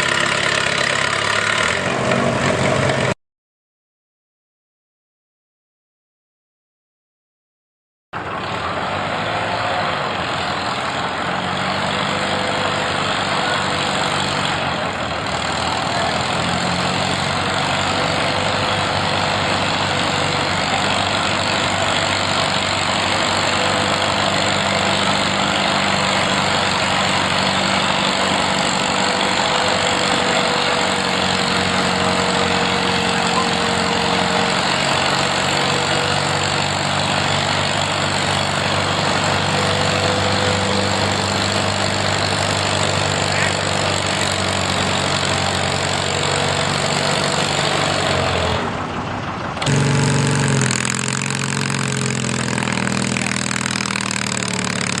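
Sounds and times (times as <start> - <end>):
tractor engine running: 0.0 - 3.2, 8.2 - 55.0.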